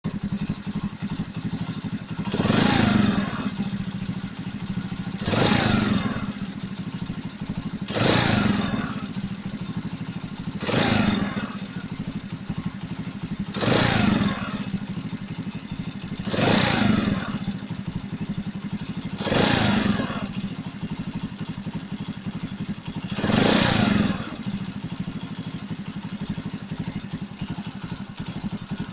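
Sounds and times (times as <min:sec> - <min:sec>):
engine knock: 0:00.0 - 0:28.9
moped engine idling and revving: 0:00.0 - 0:28.9.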